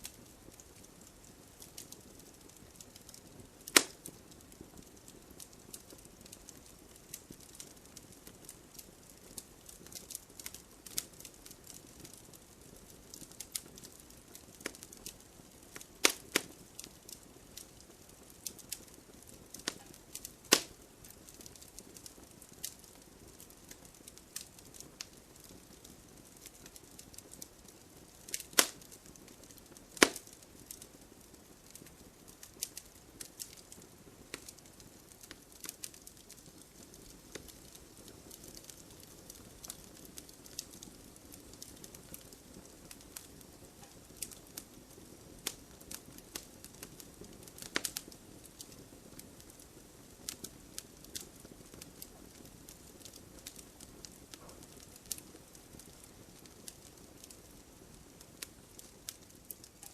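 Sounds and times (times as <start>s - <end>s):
fire crackling and popping: 0.0s - 59.9s
soft steady fire hiss: 0.0s - 59.9s.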